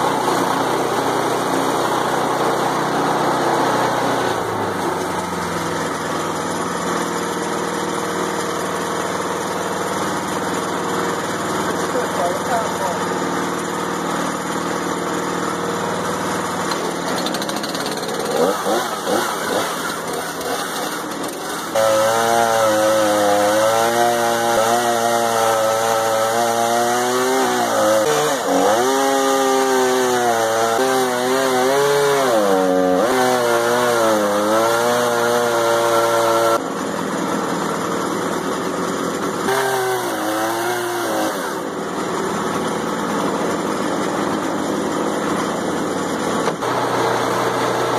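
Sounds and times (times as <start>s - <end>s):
saw blade cutting log: 0.0s - 47.9s
sawmill engine labouring: 0.0s - 47.9s.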